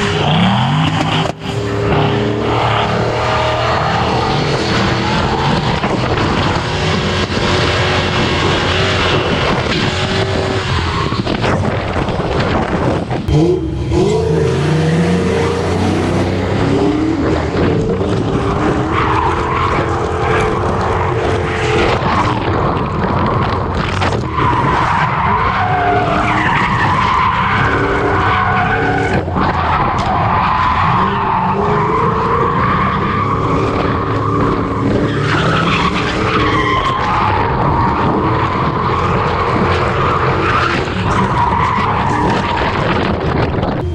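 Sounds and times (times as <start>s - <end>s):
tyres squealing and skidding: 0.0s - 12.2s, 13.4s - 43.9s
car engine at high revs: 0.0s - 43.9s.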